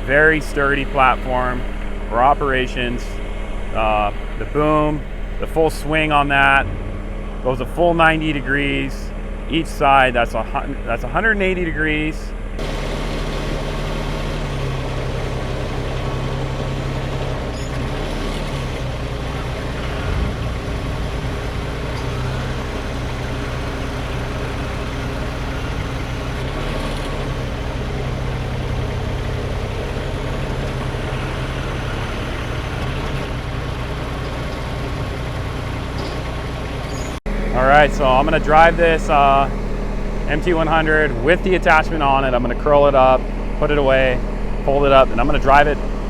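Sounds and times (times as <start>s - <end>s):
loader engine running: 0.0s - 46.0s.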